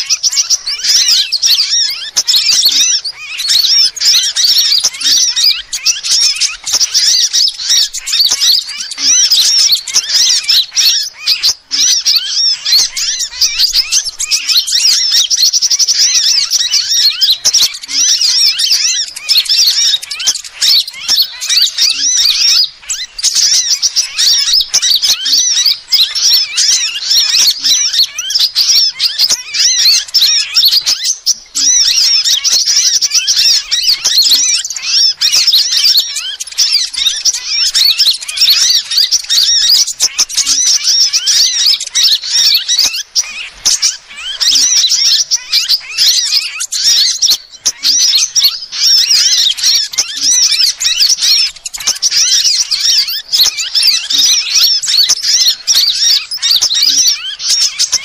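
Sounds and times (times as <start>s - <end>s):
sunbirds chirping and twittering: 0.0s - 58.0s.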